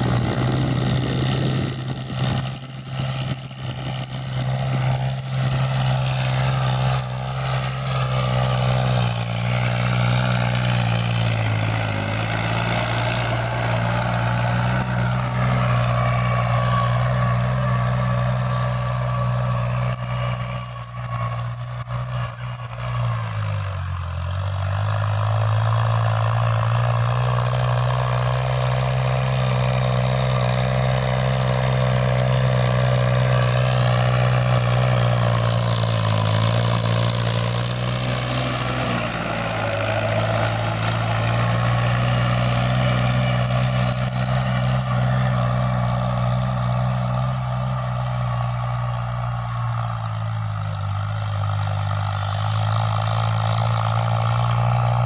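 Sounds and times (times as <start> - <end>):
diesel tractor engine: 0.0 - 55.0.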